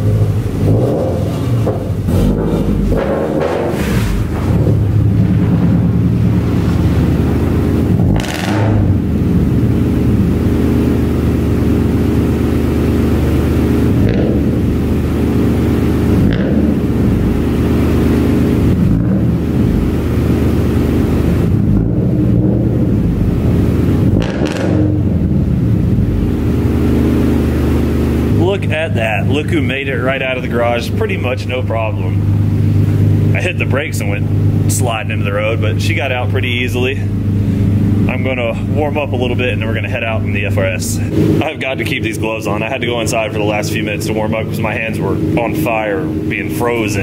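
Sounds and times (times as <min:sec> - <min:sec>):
car engine running: 0:00.0 - 0:47.0.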